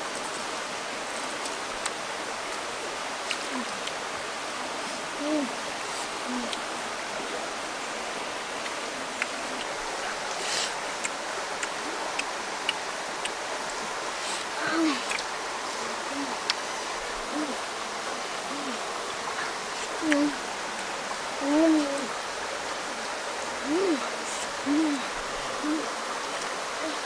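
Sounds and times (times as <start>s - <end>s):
stream flowing over rocks: 0.0s - 27.0s.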